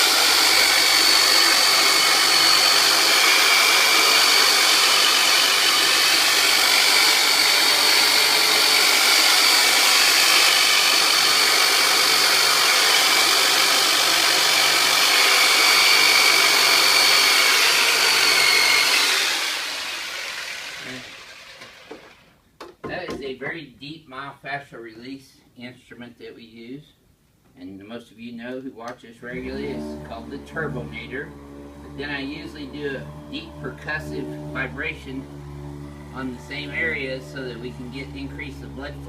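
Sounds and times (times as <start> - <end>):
massage instrument whining: 0.0 - 22.3, 29.3 - 39.0.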